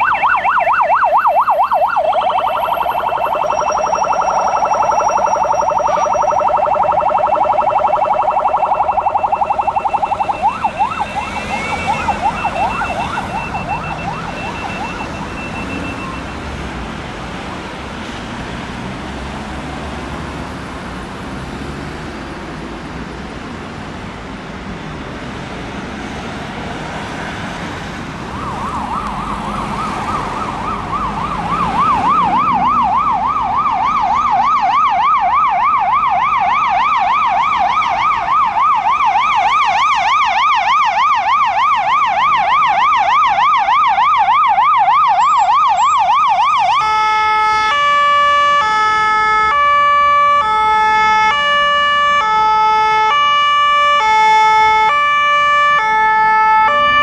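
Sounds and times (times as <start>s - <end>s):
emergency vehicle siren yelping: 0.0s - 18.4s, 25.2s - 57.0s
street noise: 0.0s - 57.0s.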